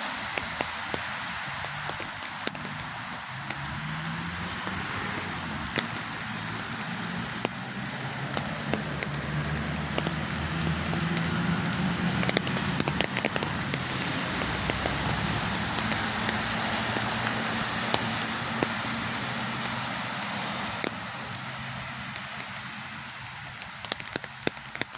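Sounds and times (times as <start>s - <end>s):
close raindrop impacts: 0.0s - 24.9s
steady rain falling: 0.0s - 24.9s.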